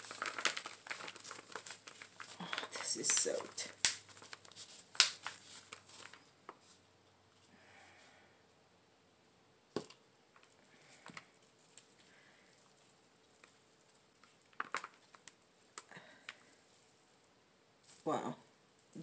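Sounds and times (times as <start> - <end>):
soft rustling: 0.0 - 8.1, 10.4 - 19.0.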